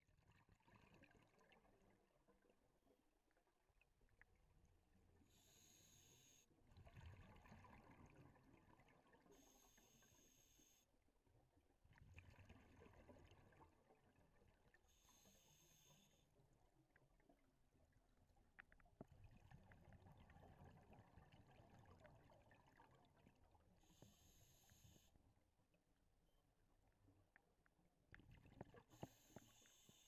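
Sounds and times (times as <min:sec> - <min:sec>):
faint underwater rumble and crackle: 0:00.0 - 0:30.0.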